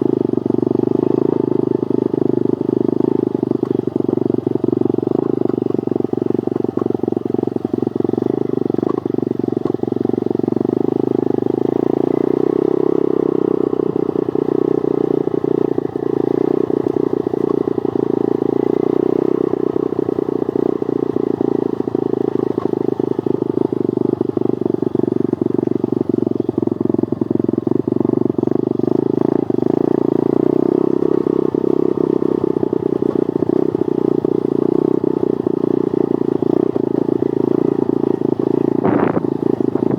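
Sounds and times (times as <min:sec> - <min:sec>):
pit bike engine running: 0:00.0 - 0:39.9.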